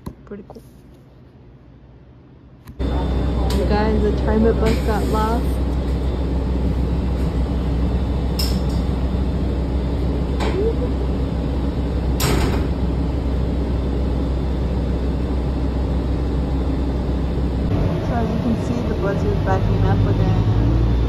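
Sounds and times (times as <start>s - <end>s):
bus engine rumble: 2.8s - 21.0s.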